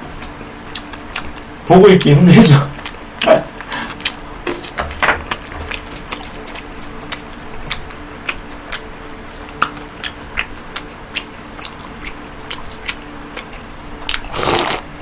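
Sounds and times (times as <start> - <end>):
wet chewing with mouth clicks: 0.1 - 14.8.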